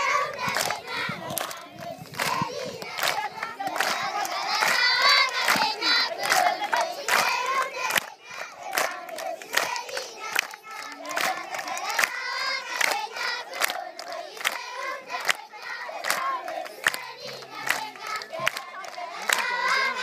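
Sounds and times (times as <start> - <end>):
children singing and chanting: 0.0 - 20.0
hands clapping: 0.0 - 20.0.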